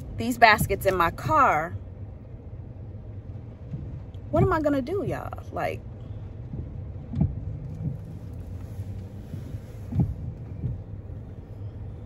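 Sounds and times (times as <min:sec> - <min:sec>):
car engine idling: 0:00.0 - 0:12.0
low bumps: 0:00.0 - 0:12.0.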